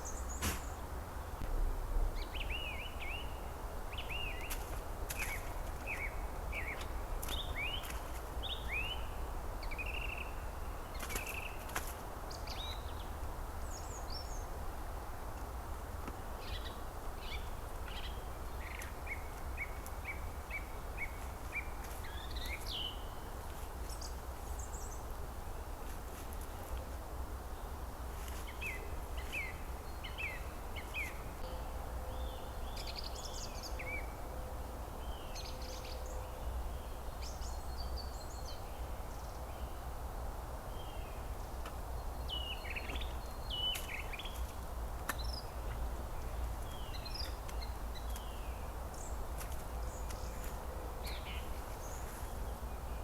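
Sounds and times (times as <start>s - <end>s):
steady hiss and low rumble: 0.0s - 53.0s
small songbirds chirping: 2.1s - 14.7s, 16.4s - 26.9s, 27.5s - 34.2s, 35.0s - 40.0s, 40.7s - 53.0s.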